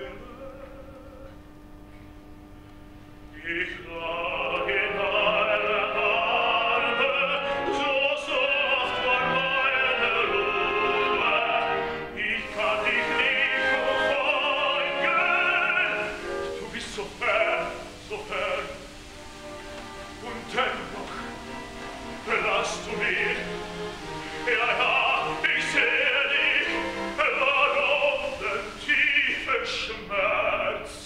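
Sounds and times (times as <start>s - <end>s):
operatic tenor singing: 0.0s - 1.4s, 3.4s - 31.0s
soft orchestra: 3.4s - 31.0s.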